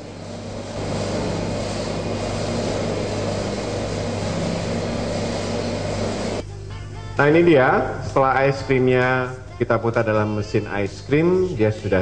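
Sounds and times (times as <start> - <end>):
ice cream machine motor hum: 0.0 - 12.0.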